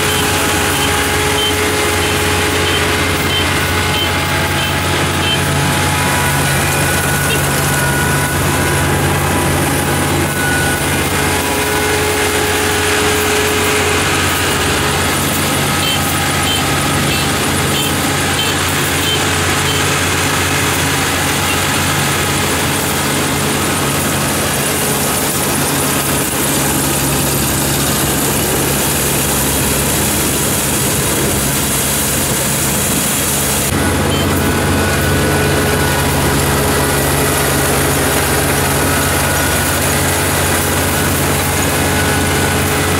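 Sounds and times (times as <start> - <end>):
combine harvester engine hum: 0.0 - 42.9.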